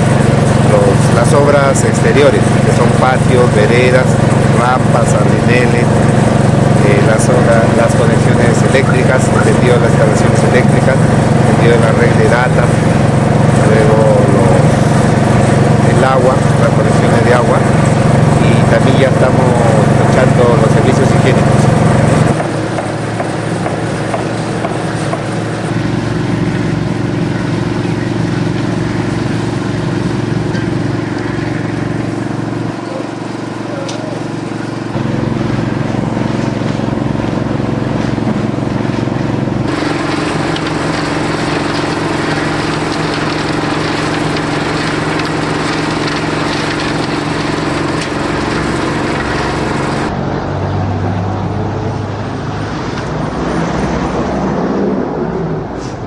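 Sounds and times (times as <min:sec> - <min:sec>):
motor droning: 0:00.0 - 0:55.8.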